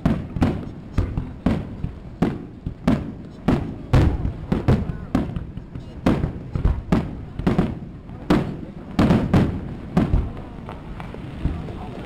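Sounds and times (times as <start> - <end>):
firework shells bursting: 0.0 - 11.9.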